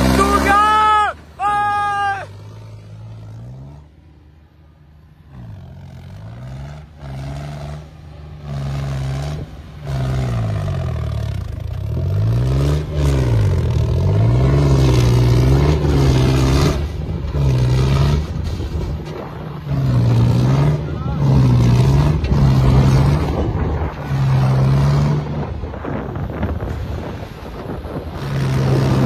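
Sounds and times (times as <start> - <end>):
diesel tractor engine revving: 0.0 - 29.0.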